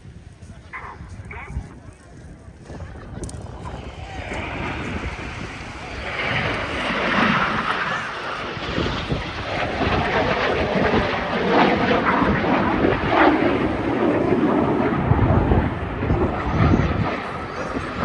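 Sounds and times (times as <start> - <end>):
jets flying low: 0.0 - 18.0.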